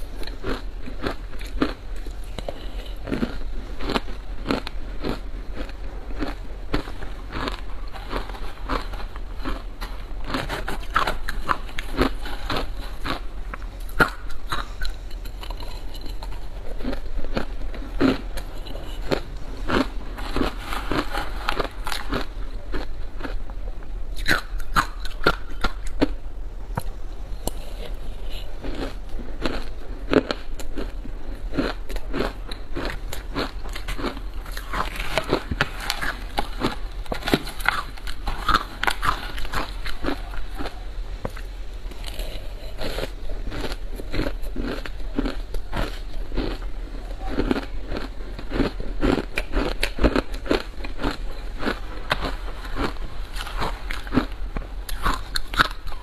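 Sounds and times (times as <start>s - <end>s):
chewing crunchy ice: 0.0s - 26.2s, 26.8s - 56.0s.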